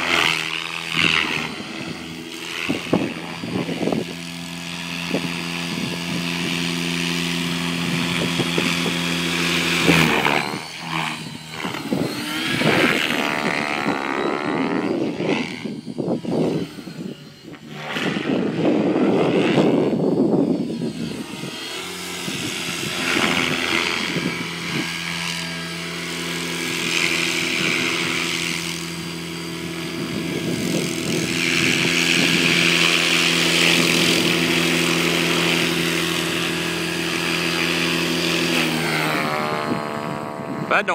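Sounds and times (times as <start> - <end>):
rc helicopter motor hum: 0.0 - 40.9
rotor blade whoosh: 0.0 - 40.9
wavering gliding whine: 0.0 - 40.9.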